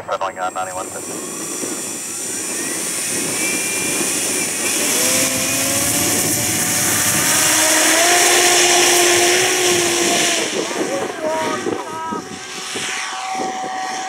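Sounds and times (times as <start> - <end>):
motor whine: 0.7 - 14.0
model plane electric motor: 1.0 - 14.0.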